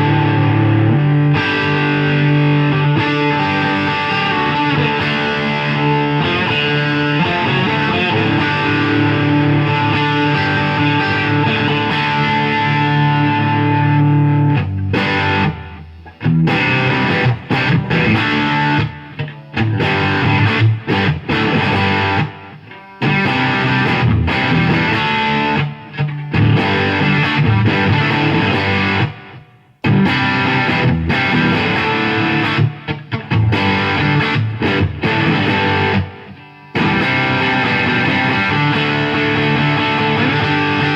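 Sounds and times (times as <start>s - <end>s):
overdriven electric guitar chords: 0.0s - 40.9s.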